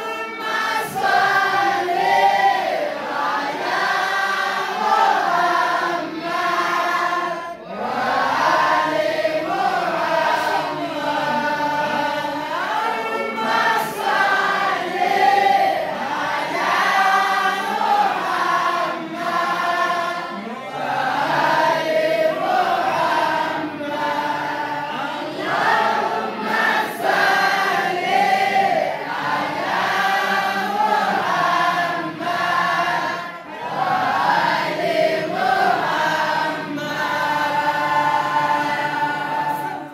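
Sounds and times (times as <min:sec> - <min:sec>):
group of voices chanting in unison: 0:00.0 - 0:39.9.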